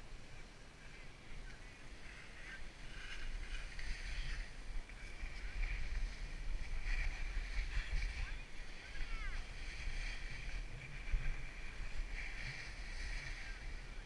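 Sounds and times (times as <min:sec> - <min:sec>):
wind rumble on microphone: 0:00.0 - 0:14.0
skis scraping on packed snow: 0:01.8 - 0:14.0.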